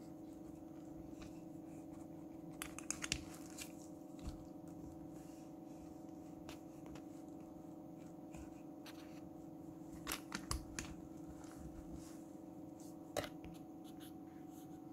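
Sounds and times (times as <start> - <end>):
steady background hum: 0.0 - 14.9.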